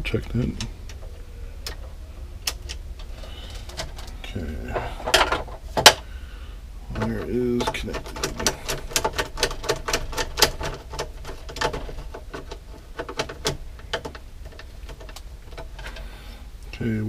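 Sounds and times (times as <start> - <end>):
breaker clicking and tapping: 0.0 - 6.1, 6.9 - 16.2.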